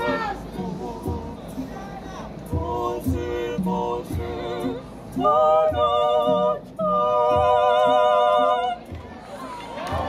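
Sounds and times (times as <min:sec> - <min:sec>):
steady low beat: 0:00.0 - 0:09.4
mixed choir singing: 0:00.0 - 0:10.0.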